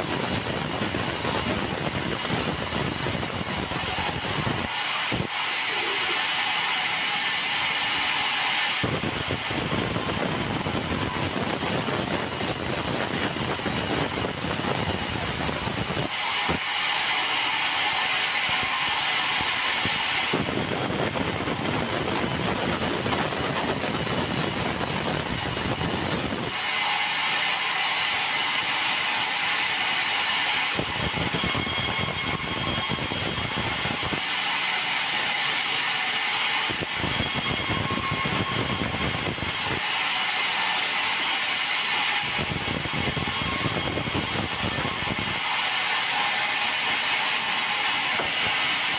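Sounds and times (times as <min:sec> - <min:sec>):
band saw sawing logs: 0:00.9 - 0:11.4, 0:15.9 - 0:25.7, 0:26.5 - 0:48.9.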